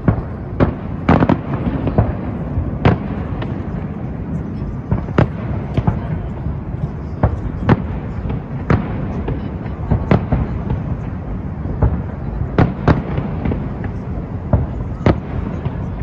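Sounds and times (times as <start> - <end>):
fireworks bursting: 0.0 - 16.0
low rumbling noise: 0.0 - 16.0.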